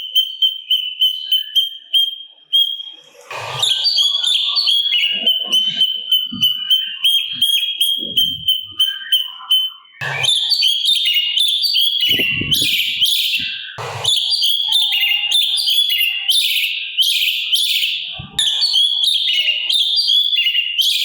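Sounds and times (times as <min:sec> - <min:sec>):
bird singing chattering phrases: 0:01.1 - 0:21.0.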